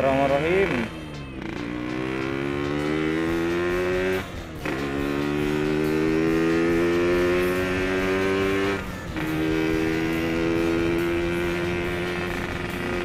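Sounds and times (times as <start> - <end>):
two-stroke engine accelerating: 0.0 - 13.0.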